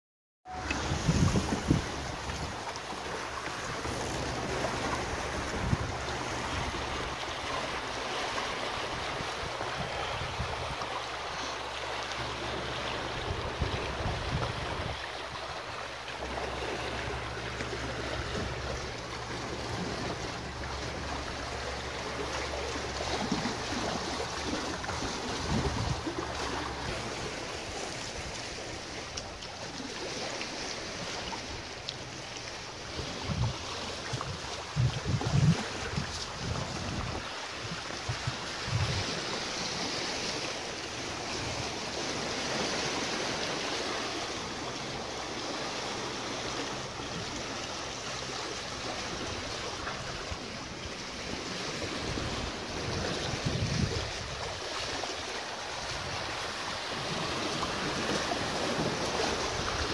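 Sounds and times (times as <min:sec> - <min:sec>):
wind rumbling on microphone: 0:00.5 - 0:11.5, 0:12.2 - 0:59.9
water rushing along boat hulls: 0:00.5 - 0:59.9.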